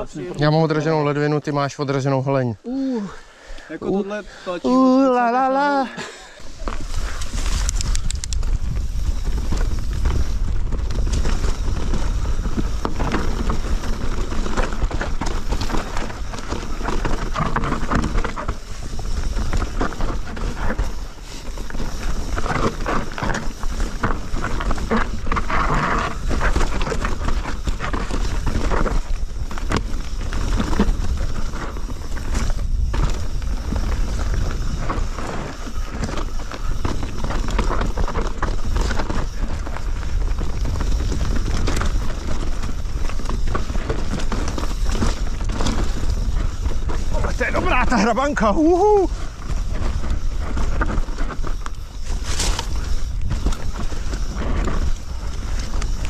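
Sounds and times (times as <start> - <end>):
rumble of bike tyres: 0.0 - 56.0
bike rattling and knocking: 6.5 - 56.0
wind on microphone: 6.5 - 56.0.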